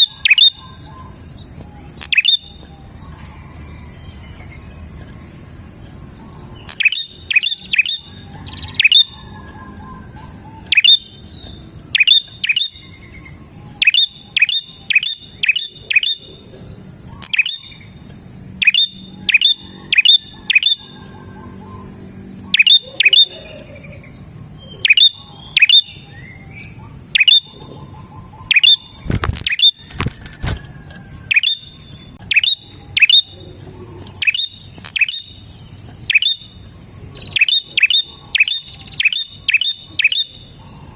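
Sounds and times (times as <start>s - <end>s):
bird chirping: 0.0s - 30.0s, 31.0s - 40.9s.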